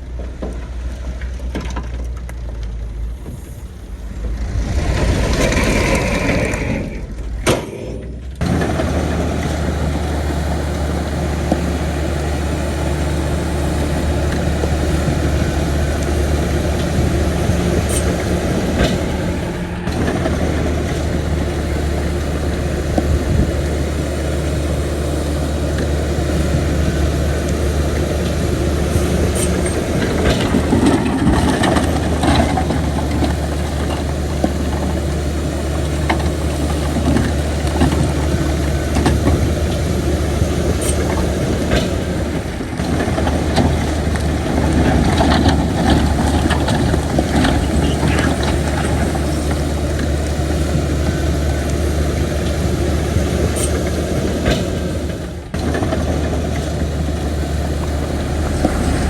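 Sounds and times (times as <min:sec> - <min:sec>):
diesel machinery running: 0:00.0 - 0:59.0.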